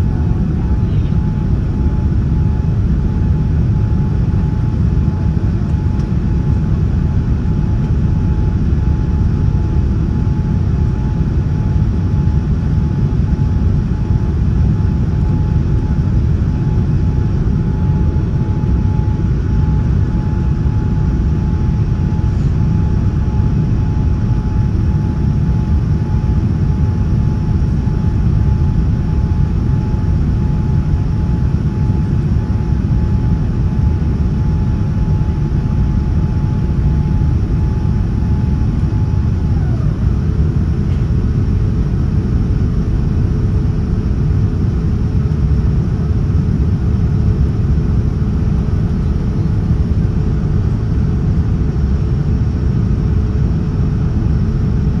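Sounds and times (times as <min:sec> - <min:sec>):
airliner cabin rumble: 0:00.0 - 0:55.0
faint steady whine: 0:00.0 - 0:55.0.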